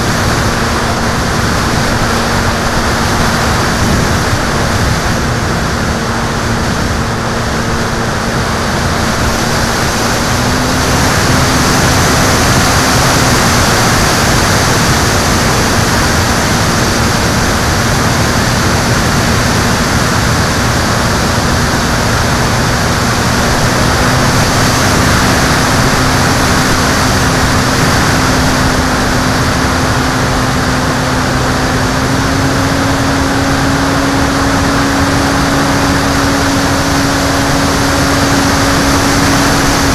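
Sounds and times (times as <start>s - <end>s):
rushing wind and water: 0.0s - 39.9s
watercraft engine running: 0.0s - 39.9s.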